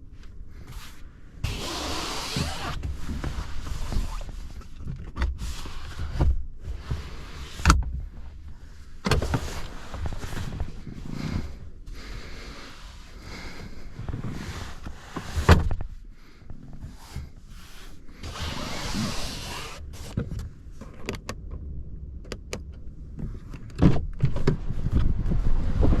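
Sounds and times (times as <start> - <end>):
car cabin low rumble: 0.0 - 26.0.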